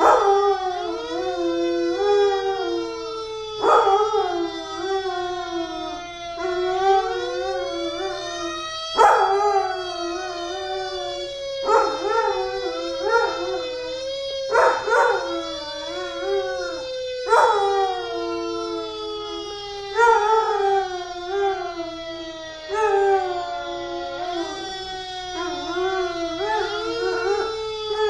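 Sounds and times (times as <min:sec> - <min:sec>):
dog howling: 0:00.0 - 0:28.0
fire truck siren wailing: 0:00.0 - 0:28.0.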